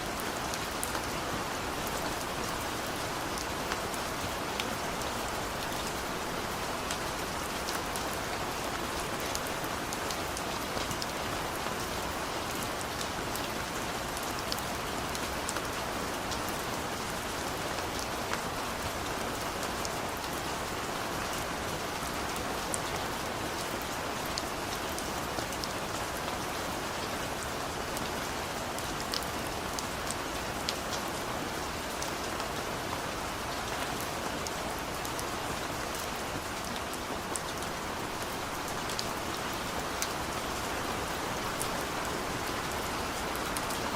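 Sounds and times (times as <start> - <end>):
rain falling on surfaces: 0.0 - 43.9
rain drops ticking: 0.1 - 43.9.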